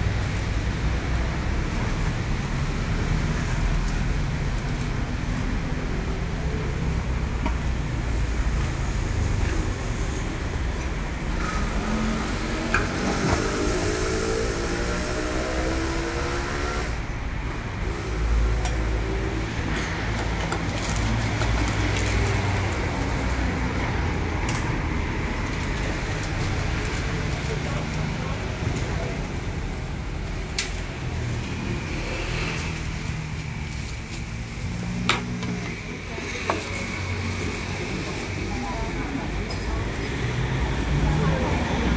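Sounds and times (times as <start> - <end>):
passing vehicle engine: 0.0 - 41.9
road traffic rumble: 0.0 - 41.9.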